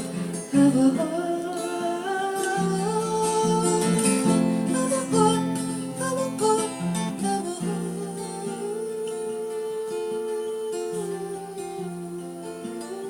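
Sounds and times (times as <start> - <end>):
acoustic guitar: 0.0 - 13.0
person singing: 0.0 - 13.0.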